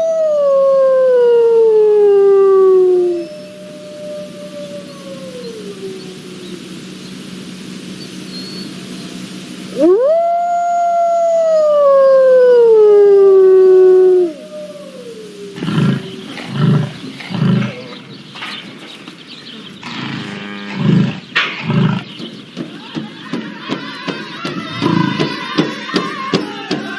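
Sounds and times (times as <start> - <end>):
wolf howling: 0.0 - 7.4, 9.7 - 18.2, 19.8 - 22.1, 23.5 - 26.9
low steady hum: 0.0 - 26.8
low pulsing animal calls: 0.0 - 26.9.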